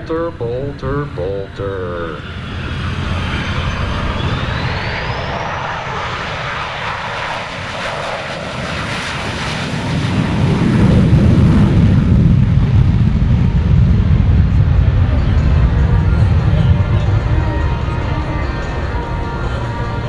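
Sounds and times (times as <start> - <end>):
deep jet rumble: 0.0 - 20.0
jet engine whine: 0.0 - 20.0.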